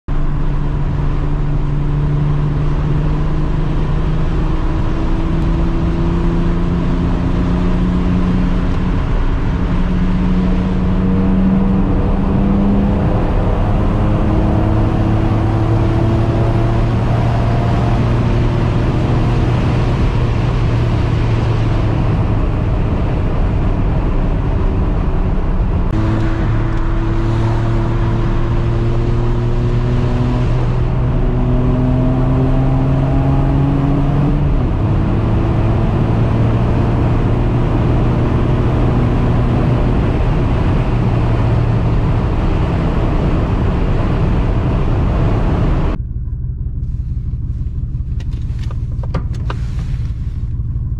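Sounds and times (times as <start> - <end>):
car engine accelerating: 0.1 - 50.9
road and wind noise: 0.1 - 50.9.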